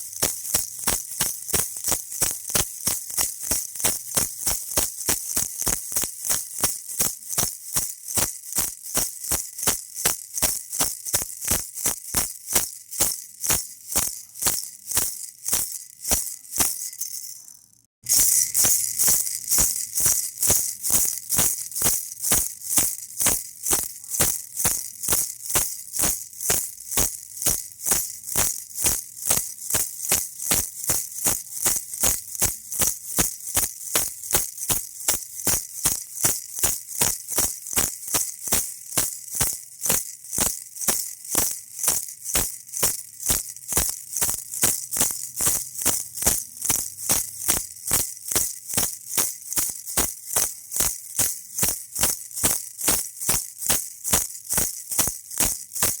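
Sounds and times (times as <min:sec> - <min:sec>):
baby rattle shaking: 0:00.0 - 0:56.0.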